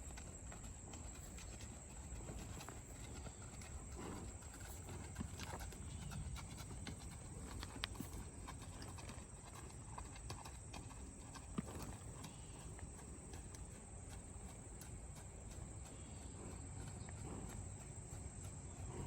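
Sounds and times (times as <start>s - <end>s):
horse hooves clopping: 0.0s - 19.0s.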